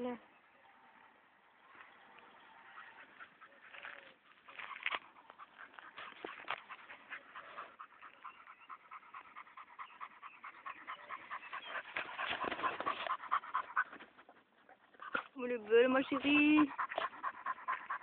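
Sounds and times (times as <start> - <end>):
dog panting: 2.6 - 18.0.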